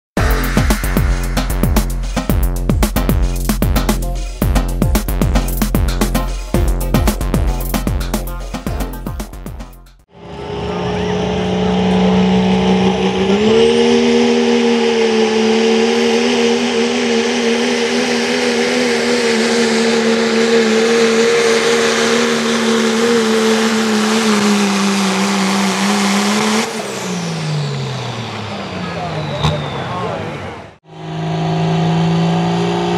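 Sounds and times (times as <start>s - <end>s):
diesel truck engine at high revs: 0.2s - 32.9s.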